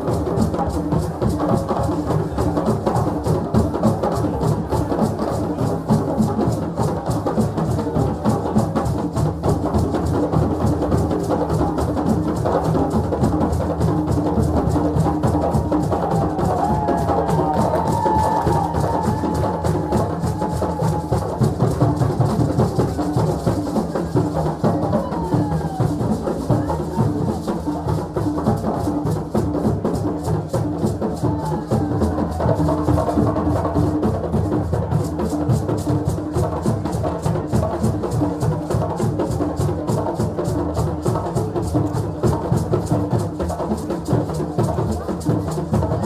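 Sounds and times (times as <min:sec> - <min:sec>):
fast drumming: 0:00.0 - 0:46.0.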